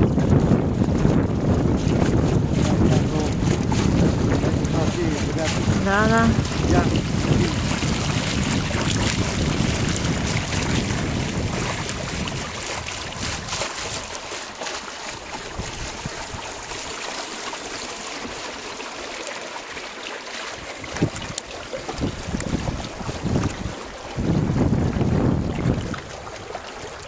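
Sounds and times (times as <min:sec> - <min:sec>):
wind buffeting microphone: 0:00.0 - 0:14.1, 0:15.2 - 0:17.1, 0:20.6 - 0:27.0
water rushing along boat hull: 0:00.0 - 0:27.0.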